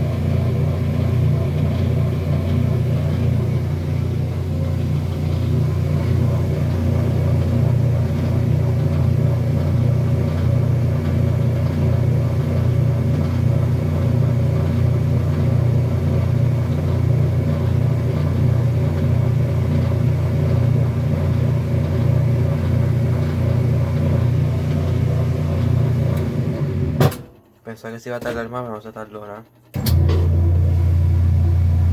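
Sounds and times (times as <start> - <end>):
washing machine humming and pulsing: 0.0 - 31.9.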